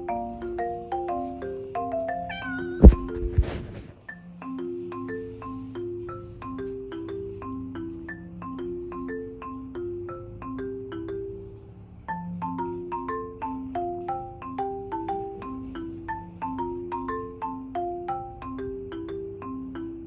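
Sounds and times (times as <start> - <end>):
marimba music with bass line: 0.0 - 20.0.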